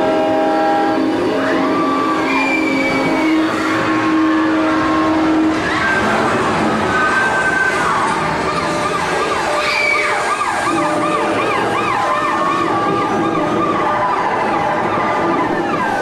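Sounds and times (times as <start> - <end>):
loud rushing noise: 0.0 - 16.0
yelping emergency sirens: 0.0 - 16.0.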